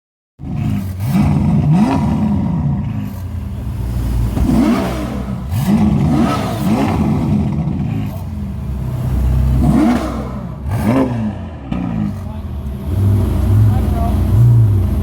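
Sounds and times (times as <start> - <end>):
sports car engine revving: 0.4 - 15.0.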